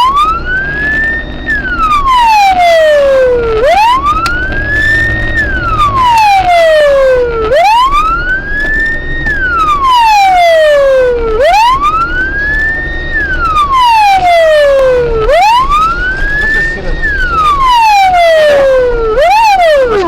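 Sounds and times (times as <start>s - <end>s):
low vehicle rumble: 0.0s - 20.0s
police siren wailing: 0.0s - 20.0s.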